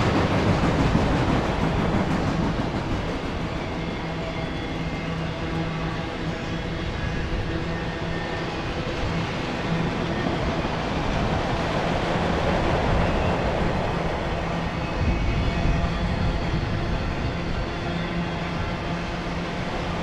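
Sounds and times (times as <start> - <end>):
freight cars rolling on rails: 0.0 - 20.0.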